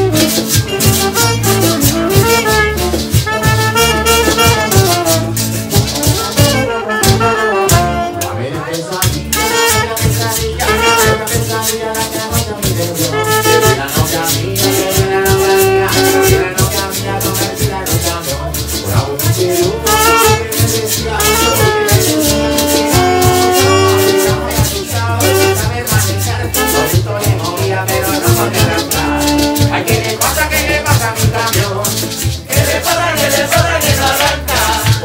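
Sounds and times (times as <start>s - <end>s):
double bass line: 0.0s - 35.0s
percussion beat: 0.0s - 35.0s
trombone: 0.0s - 35.0s
person singing into microphone: 6.0s - 35.0s.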